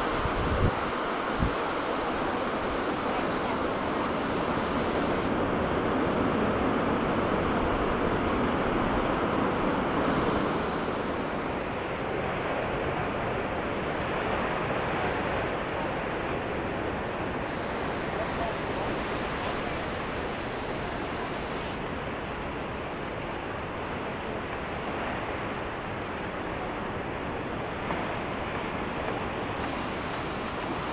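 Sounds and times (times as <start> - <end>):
waves breaking on rocky shore: 0.0 - 30.9
wind: 0.0 - 30.9.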